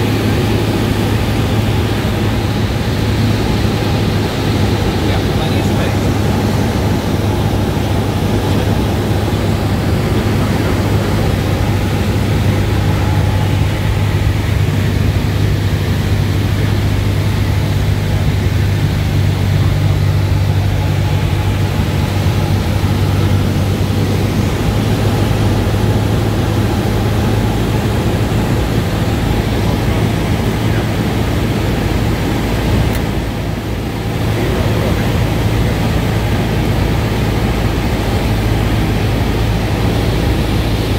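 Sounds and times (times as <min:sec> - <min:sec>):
airflow noise: 0:00.0 - 0:40.9
propeller aircraft engine drone: 0:00.0 - 0:40.9.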